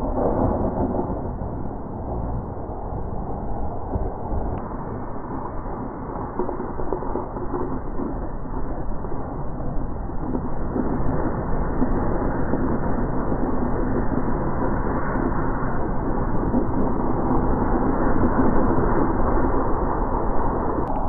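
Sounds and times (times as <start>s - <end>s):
board sliding over snow: 0.0s - 21.0s
wind on microphone: 0.0s - 21.0s.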